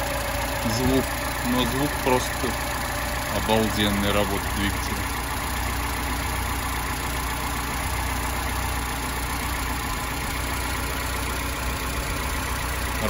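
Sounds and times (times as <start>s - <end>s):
car engine idling quietly: 0.0s - 13.0s.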